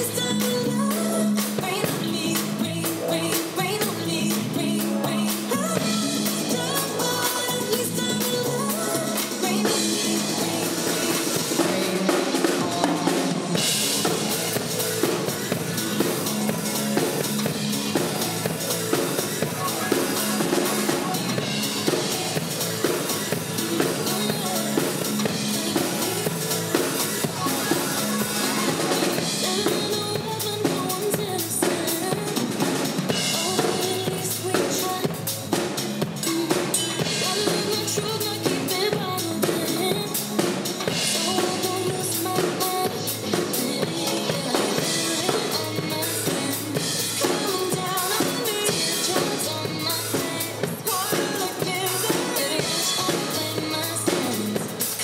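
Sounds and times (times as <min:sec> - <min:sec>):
drum kit playing: 0:00.0 - 0:55.0
pop-dance backing track: 0:00.0 - 0:55.0.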